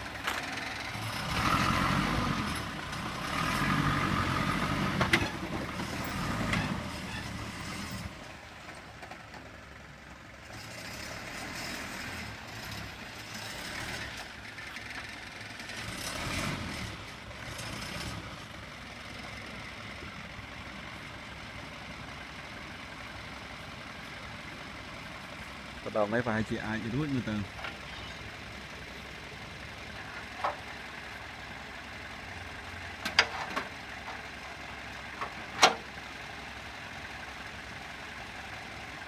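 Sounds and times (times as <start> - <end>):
heavy vehicle engine running: 0.0 - 39.0.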